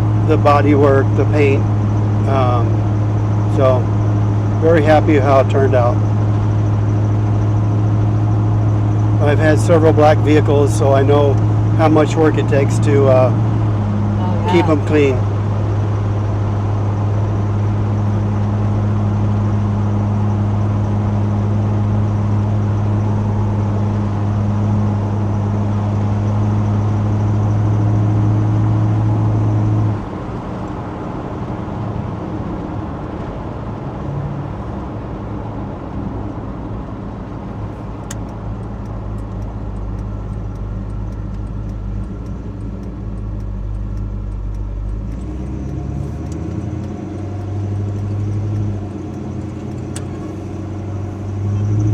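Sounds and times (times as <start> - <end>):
pickup truck engine droning: 0.0 - 51.9.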